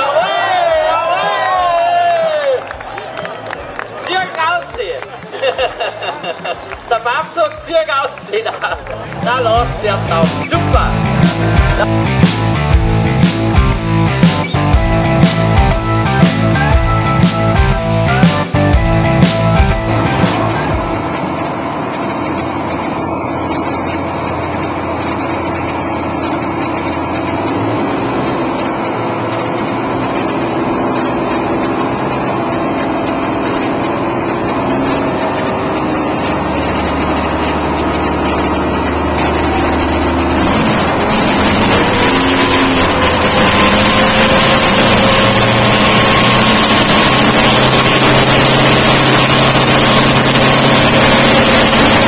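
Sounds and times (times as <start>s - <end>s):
heavy diesel engines under load: 0.0s - 52.0s.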